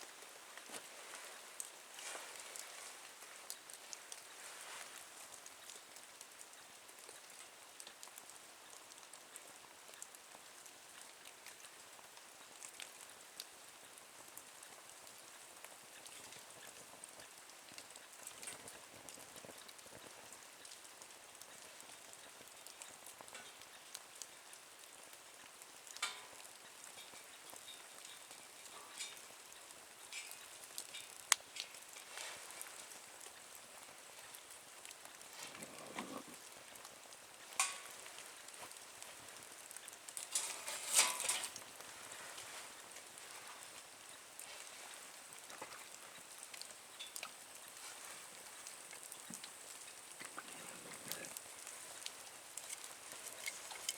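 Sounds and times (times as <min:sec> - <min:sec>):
faint steady hiss: 0:00.0 - 0:53.9
small wood fire crackling: 0:00.0 - 0:53.9.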